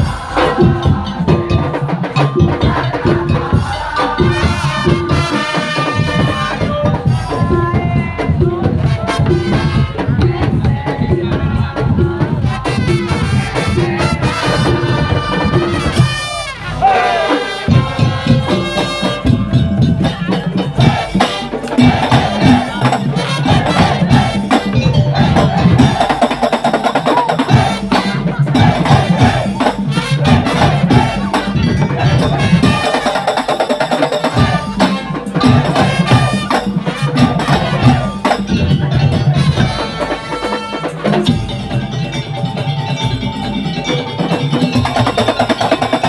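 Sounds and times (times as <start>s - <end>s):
wooden slit drums and drums beating: 0.0s - 46.0s.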